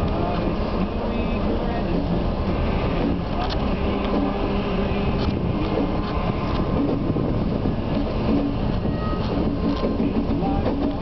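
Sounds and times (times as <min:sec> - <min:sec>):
diesel locomotive running: 0:00.0 - 0:11.0
train clanks: 0:00.0 - 0:11.0.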